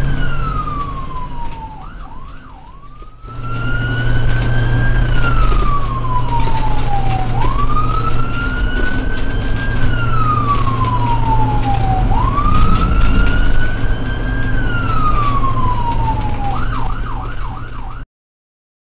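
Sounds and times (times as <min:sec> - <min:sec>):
steady low rumble: 0:00.0 - 0:17.6
ambulance siren wailing: 0:00.0 - 0:18.1.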